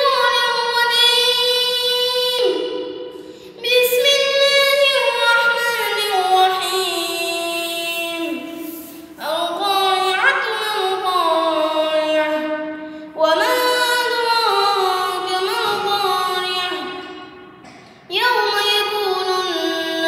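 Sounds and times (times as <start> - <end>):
boy singing unaccompanied: 0.0 - 2.8, 3.6 - 12.6, 13.2 - 17.1, 18.1 - 20.0.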